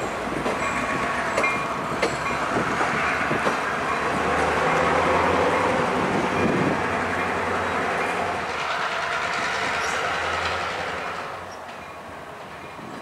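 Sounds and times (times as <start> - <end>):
locomotive engine drone: 0.0 - 13.0
train wheels rumbling on rails: 0.0 - 13.0.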